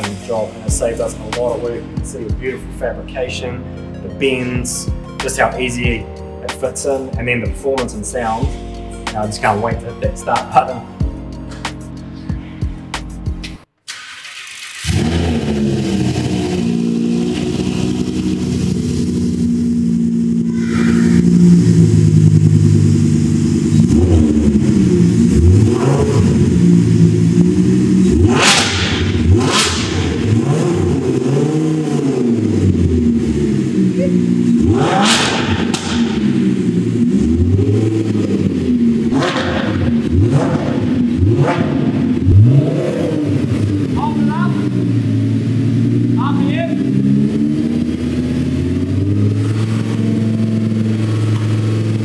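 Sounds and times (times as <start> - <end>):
sports car engine idling and revving: 0.0 - 13.6, 14.4 - 52.0.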